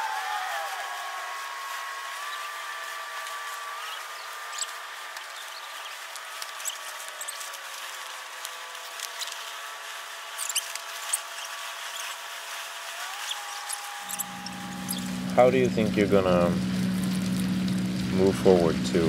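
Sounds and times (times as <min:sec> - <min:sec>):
faint hum: 0:00.0 - 0:19.0
steady hiss: 0:00.0 - 0:19.0.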